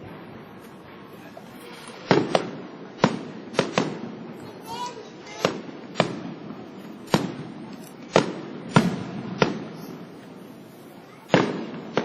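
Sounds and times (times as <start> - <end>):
fireworks bursting with echoes: 0.0 - 12.0.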